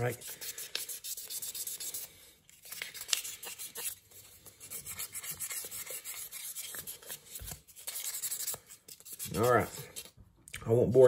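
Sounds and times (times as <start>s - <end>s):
sandpaper sanding wood: 0.0s - 2.2s, 2.9s - 10.1s.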